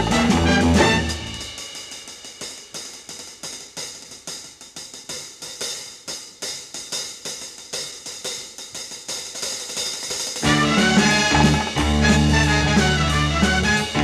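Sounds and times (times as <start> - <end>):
cymbal and hi-hat drumming: 0.0 - 14.0.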